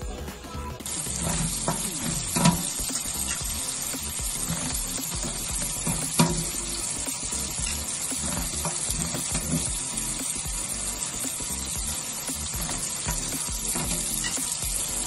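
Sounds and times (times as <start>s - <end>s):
tap water running into sink: 0.8s - 15.0s.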